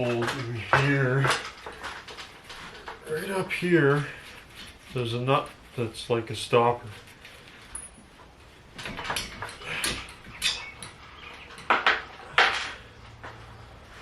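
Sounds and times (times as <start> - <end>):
metal clinks knocks and scrapes: 0.0 - 5.6, 7.0 - 13.7.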